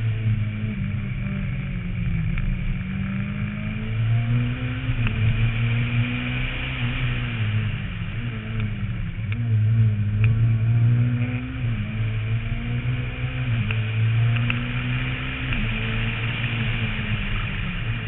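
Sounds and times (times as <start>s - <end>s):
low wind rumble: 0.0s - 18.0s
rally car engine accelerating: 0.0s - 18.0s.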